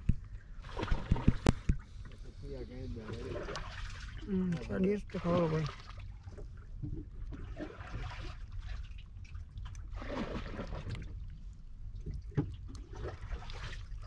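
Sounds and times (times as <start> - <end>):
water lapping at boat: 0.0 - 14.0.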